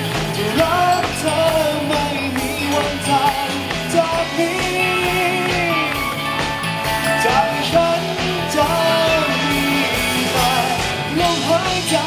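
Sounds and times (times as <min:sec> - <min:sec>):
man singing into a microphone: 0:00.0 - 0:06.2, 0:07.1 - 0:12.0
pop-rock band playing: 0:00.0 - 0:12.0.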